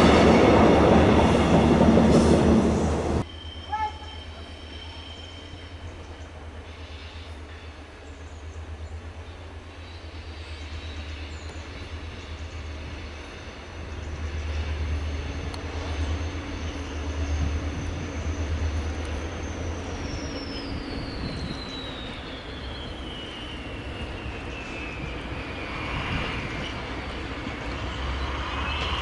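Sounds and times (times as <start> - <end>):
diesel locomotive engine rumble: 0.0 - 29.0.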